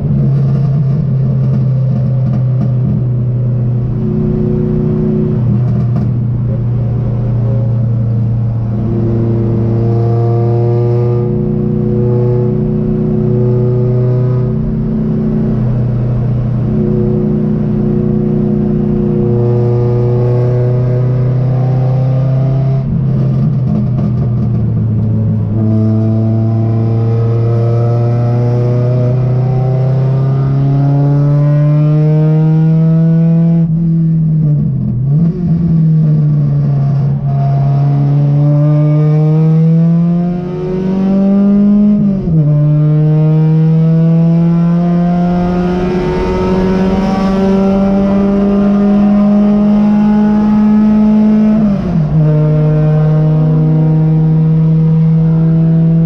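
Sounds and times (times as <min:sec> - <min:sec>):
race car engine: 0:00.0 - 0:56.0.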